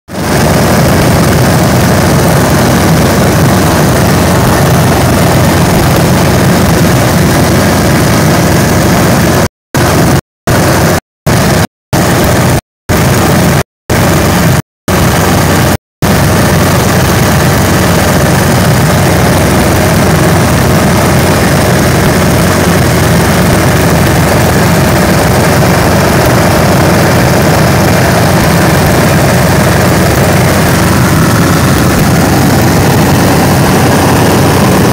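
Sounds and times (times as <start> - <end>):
light aircraft engine drone: 0.2 - 34.9.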